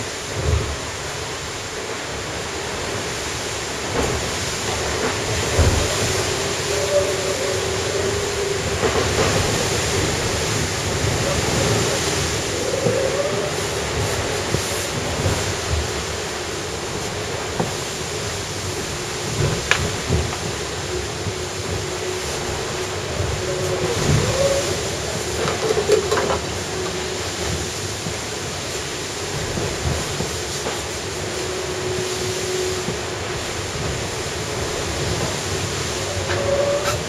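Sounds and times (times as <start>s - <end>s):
sea water rushing: 0.0s - 37.0s
wind: 0.0s - 37.0s.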